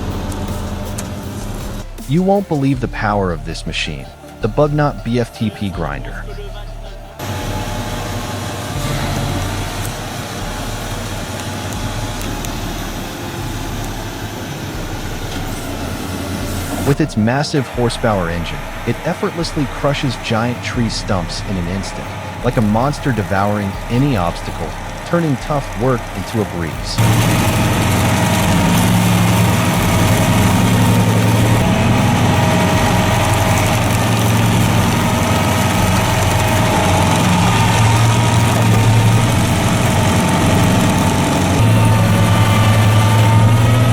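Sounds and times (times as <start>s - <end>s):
wood grinder engine drone: 0.0s - 43.9s
rough grinding noise: 7.2s - 43.9s.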